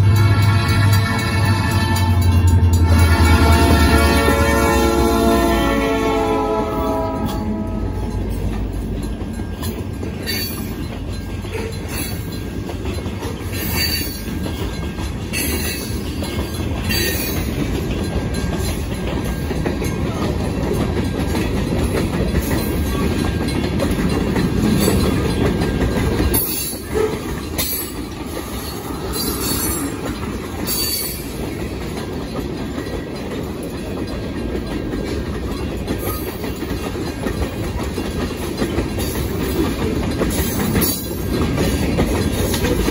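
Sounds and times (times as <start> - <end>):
diesel locomotives passing: 0.0 - 42.9
train wheels clacking over rail joints: 0.0 - 42.9.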